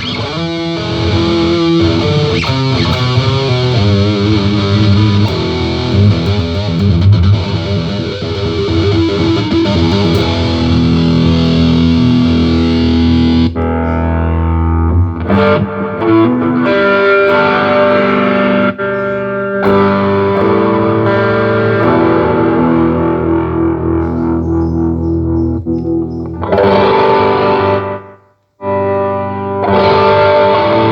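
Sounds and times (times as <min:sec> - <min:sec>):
electric guitar playing: 0:00.0 - 0:30.9.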